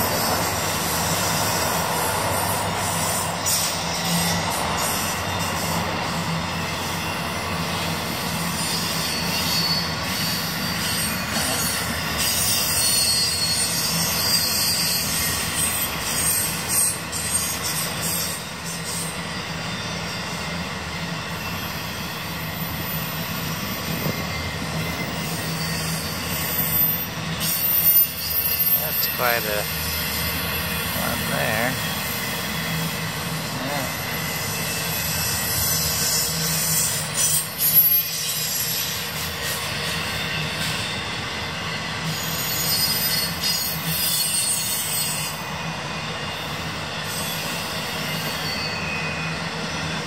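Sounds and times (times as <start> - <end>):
freight train cars rolling: 0.0 - 50.0
steel wheels squealing: 0.0 - 50.0.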